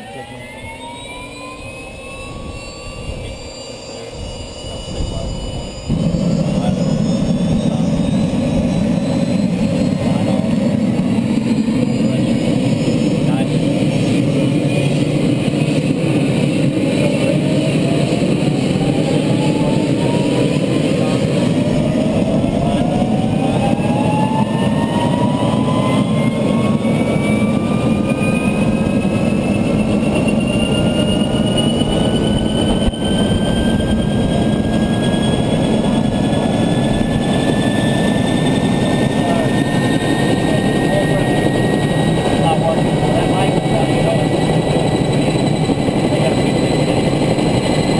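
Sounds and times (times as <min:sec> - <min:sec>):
helicopter turbine spooling up: 0:00.0 - 0:47.9.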